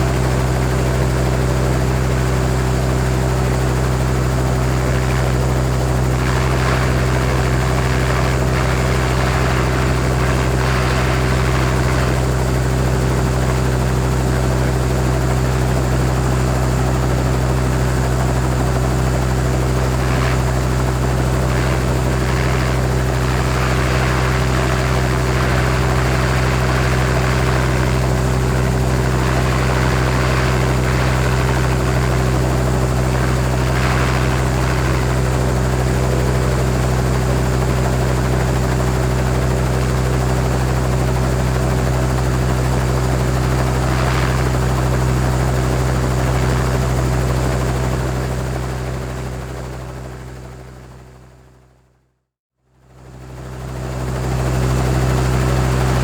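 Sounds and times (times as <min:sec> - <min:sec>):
helicopter idling: 0:00.0 - 0:50.7, 0:53.1 - 0:56.0.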